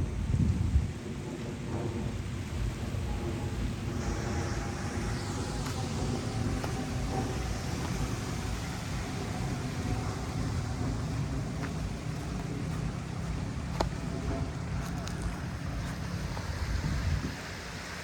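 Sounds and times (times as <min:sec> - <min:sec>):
faint steady hum: 0:00.0 - 0:18.0
wind buffeting microphone: 0:00.0 - 0:18.0
rain on beach: 0:02.0 - 0:16.6.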